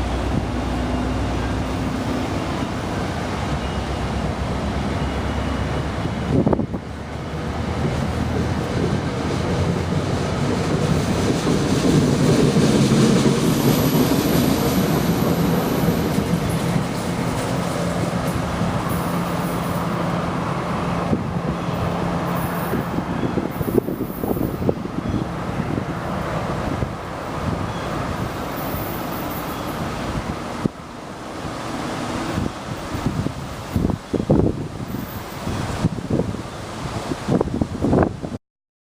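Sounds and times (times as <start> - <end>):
train rumbling past: 0.0 - 38.2.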